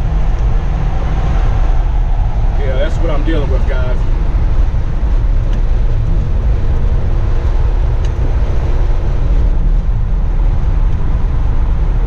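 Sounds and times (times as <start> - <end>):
car engine rumbling: 0.0 - 12.0
road noise: 0.0 - 12.0.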